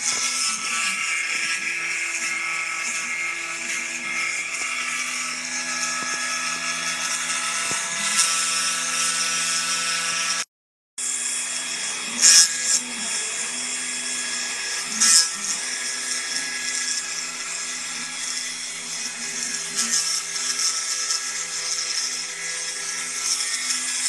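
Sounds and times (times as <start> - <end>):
bit cutting wood: 0.0 - 24.0
engraving spindle whine: 0.0 - 24.0.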